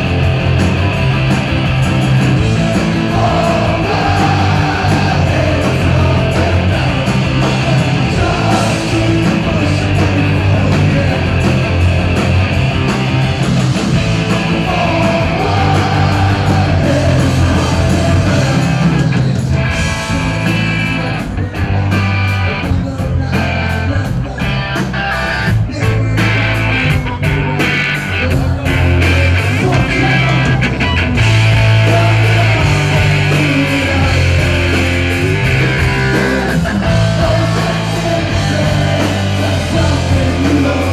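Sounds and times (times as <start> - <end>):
bass guitar: 0.0 - 40.9
drums: 0.0 - 40.9
electric guitar: 0.0 - 40.9
man singing: 2.4 - 11.9, 14.3 - 30.7, 31.4 - 40.9.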